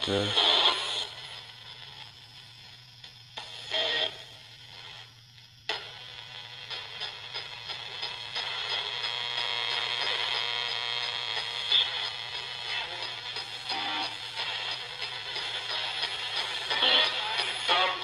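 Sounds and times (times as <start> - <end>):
radio broadcast burst: 0.0 - 2.7, 3.4 - 5.1, 6.6 - 18.0
music through radio: 0.0 - 2.8, 3.4 - 5.1, 5.7 - 18.0
radio static: 0.0 - 5.1, 5.7 - 18.0.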